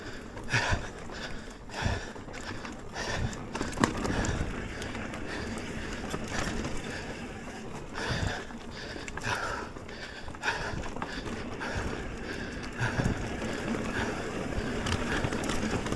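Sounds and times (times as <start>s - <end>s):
bike rattling: 0.0s - 15.9s
bike tyres on dirt trail: 0.0s - 15.9s.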